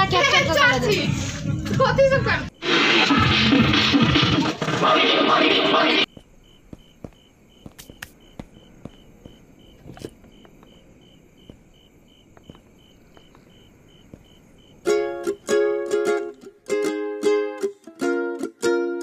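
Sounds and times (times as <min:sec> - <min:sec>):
high cricket chirp: 0:00.0 - 0:16.6.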